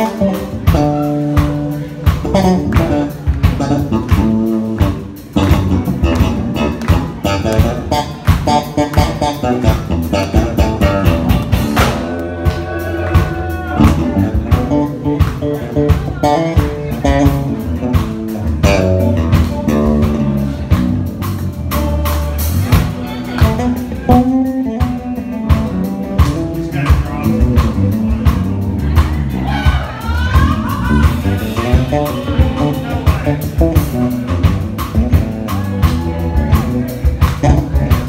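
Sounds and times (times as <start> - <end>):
drum kit: 0.0 - 38.0
electric bass line: 0.0 - 38.0.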